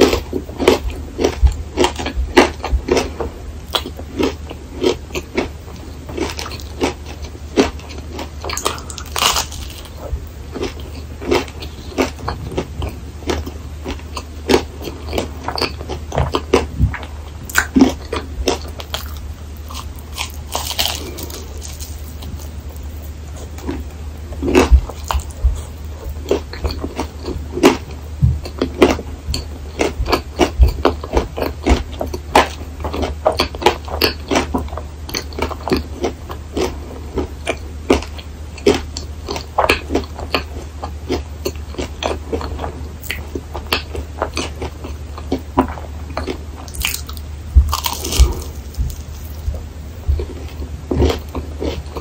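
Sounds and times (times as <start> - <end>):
crunchy chewing: 0.0 - 52.0.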